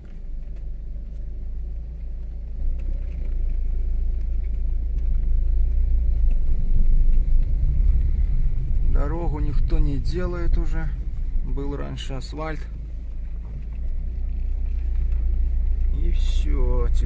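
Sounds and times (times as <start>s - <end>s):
road rumble inside a car: 0.0s - 17.0s.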